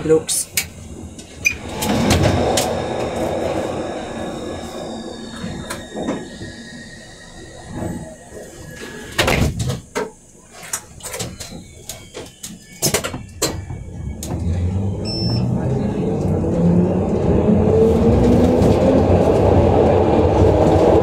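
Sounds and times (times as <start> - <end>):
subway train running noise: 0.0 - 21.0.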